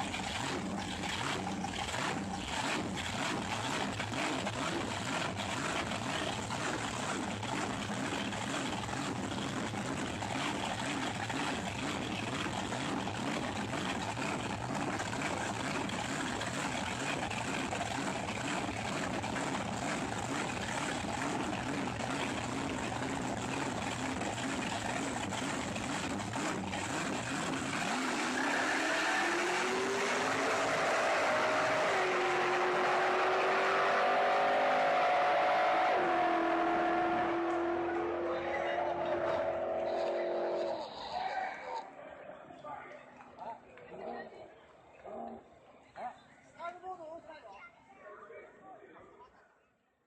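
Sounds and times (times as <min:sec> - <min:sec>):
racing car engines rumbling: 0:00.0 - 0:42.6.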